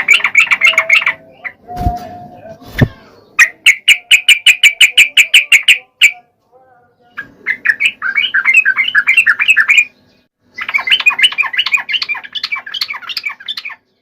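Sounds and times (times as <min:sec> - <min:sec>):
bird chattering song: 0:00.0 - 0:01.7, 0:02.4 - 0:06.2, 0:07.0 - 0:14.0.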